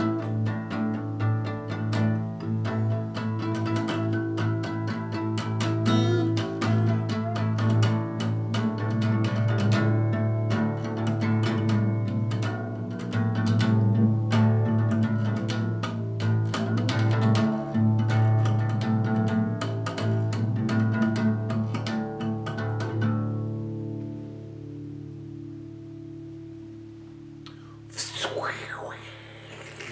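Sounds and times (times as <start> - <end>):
acoustic guitar strumming: 0.0 - 28.2.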